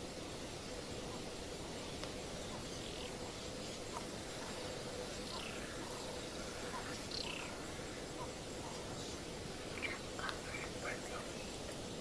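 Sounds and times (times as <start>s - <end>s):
faint steady hum: 0.0s - 12.0s
outdoor background hiss: 0.0s - 12.0s.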